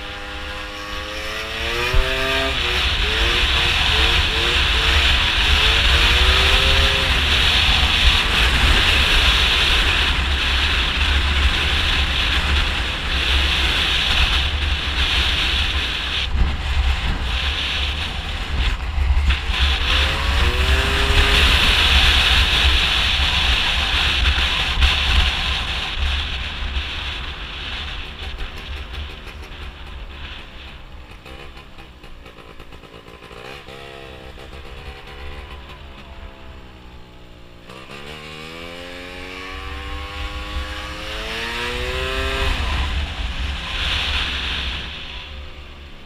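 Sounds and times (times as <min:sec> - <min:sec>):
scooter engine revving: 0:00.0 - 0:27.5, 0:30.6 - 0:45.1
wind noise on microphone: 0:00.0 - 0:31.4, 0:38.2 - 0:46.0.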